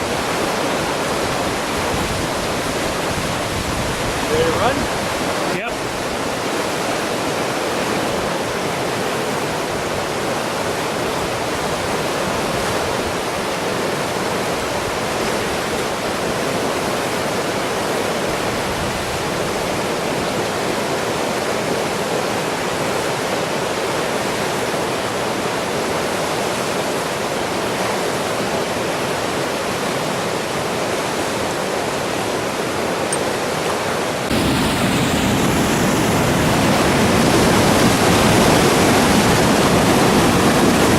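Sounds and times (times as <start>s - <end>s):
floodwater rushing through rapids: 0.0s - 40.9s.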